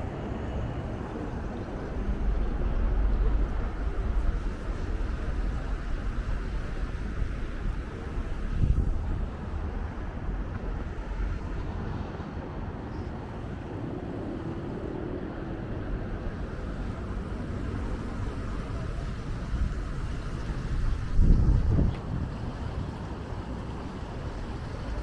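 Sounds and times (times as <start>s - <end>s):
city ambience rumble: 0.0s - 25.0s
wind buffeting microphone: 0.0s - 25.0s.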